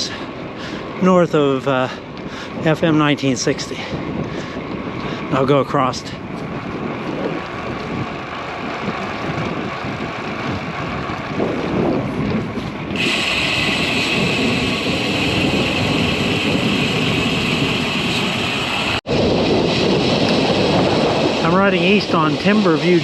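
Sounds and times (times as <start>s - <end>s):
traffic noise: 0.0s - 23.0s
wind rushing over microphone: 0.8s - 23.0s
bicycle tyre noise: 1.8s - 23.0s.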